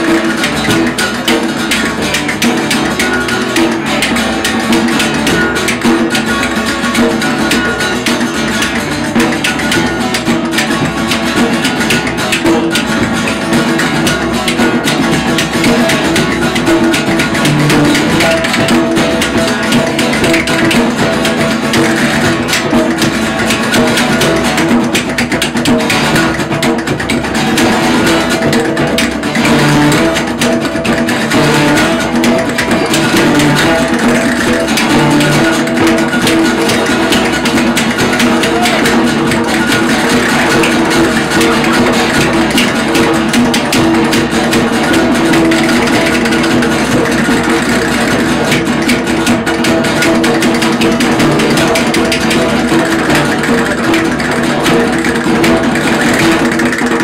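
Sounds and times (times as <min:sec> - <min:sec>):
acoustic guitar blues-rock: 0:00.0 - 0:57.0
egg shaker shaken in rhythm: 0:00.0 - 0:57.0.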